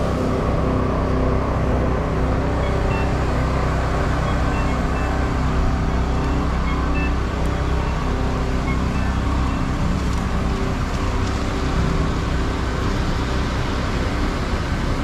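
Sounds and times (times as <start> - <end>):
faint engine hum: 0.0 - 15.0
road traffic rumble: 0.0 - 15.0.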